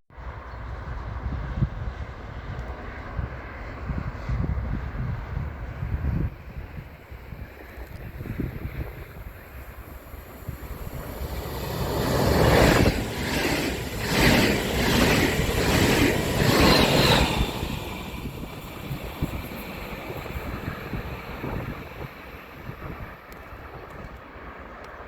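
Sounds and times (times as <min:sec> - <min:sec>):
train passing at speed: 0:00.2 - 0:25.0
wind buffeting microphone: 0:00.2 - 0:25.0.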